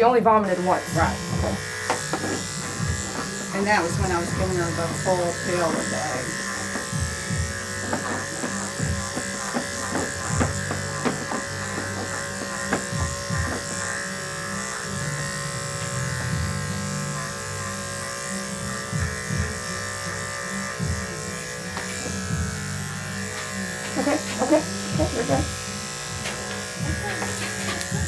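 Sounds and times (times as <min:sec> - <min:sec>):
electric clippers humming: 0:00.0 - 0:28.0.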